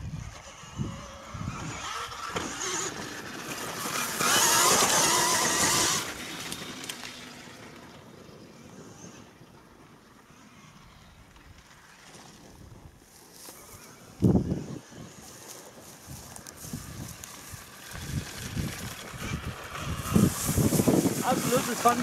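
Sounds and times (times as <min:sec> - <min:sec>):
dirt bike passing: 0:00.0 - 0:22.0
wavering electric whine: 0:00.0 - 0:22.0
tyres and flung dirt noise: 0:00.2 - 0:08.2, 0:10.7 - 0:22.0.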